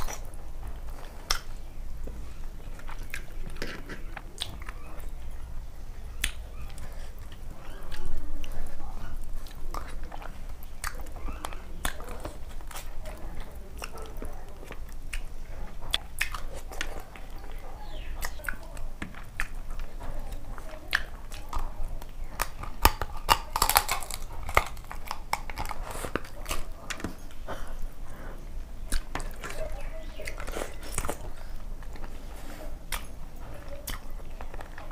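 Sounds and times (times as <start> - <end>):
wet chewing and lip smacks: 0.0 - 1.7, 2.6 - 5.3, 6.1 - 28.2, 28.8 - 34.9
food crunching: 0.0 - 34.9.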